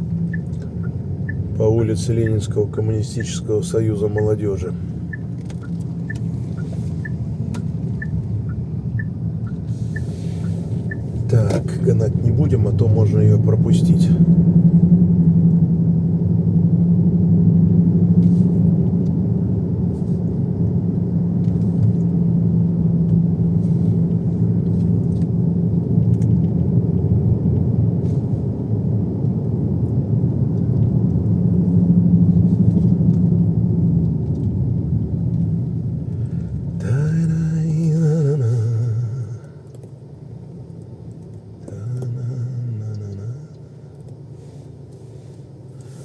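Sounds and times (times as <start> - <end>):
car engine drone: 0.0 - 46.0
road and tyre rumble: 0.0 - 46.0.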